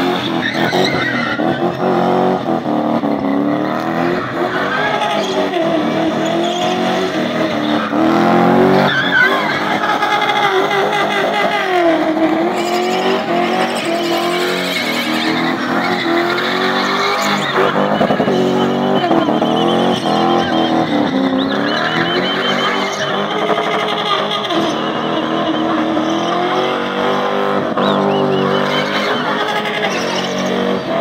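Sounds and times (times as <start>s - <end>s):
tyre squeal: 0.0s - 1.9s, 3.9s - 31.0s
car engine at high revs: 0.0s - 31.0s.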